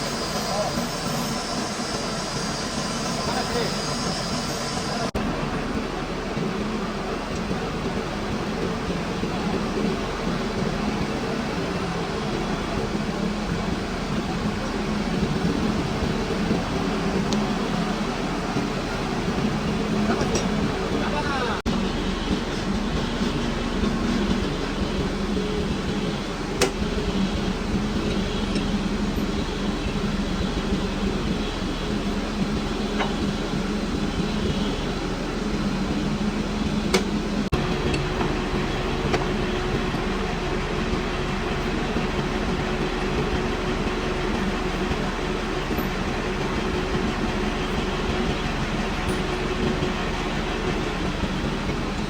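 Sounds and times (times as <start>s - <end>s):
metal lathe running: 0.0s - 52.0s.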